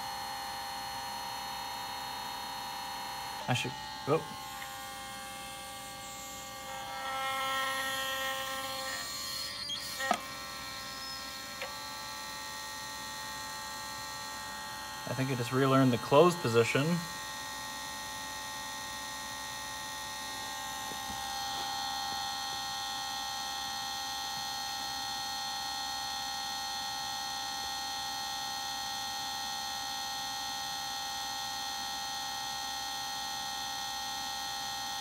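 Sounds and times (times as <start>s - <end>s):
electric motor whine: 0.0s - 35.0s.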